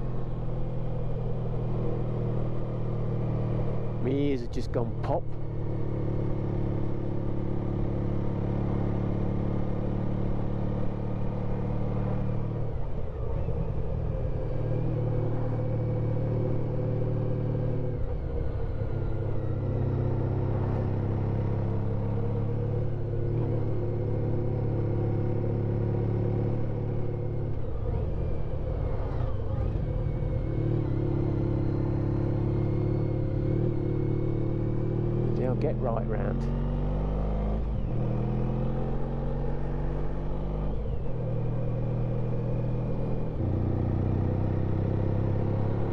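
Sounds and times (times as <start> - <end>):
road and wind noise: 0.0 - 45.9.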